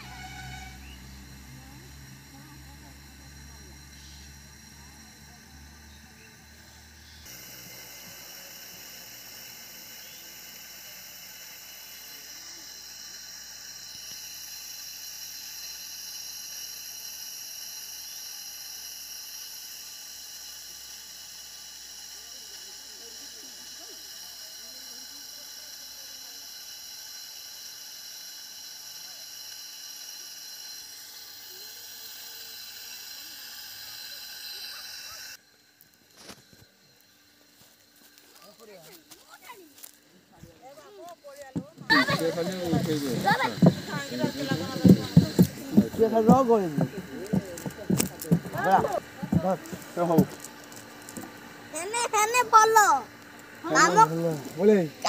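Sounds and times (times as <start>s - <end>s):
high-pitched buzzing hiss: 0.0s - 55.0s.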